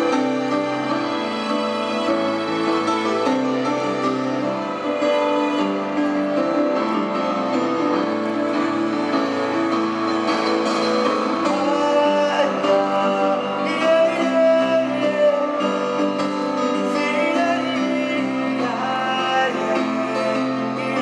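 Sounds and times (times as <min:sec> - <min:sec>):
slow music with held notes: 0:00.0 - 0:21.0.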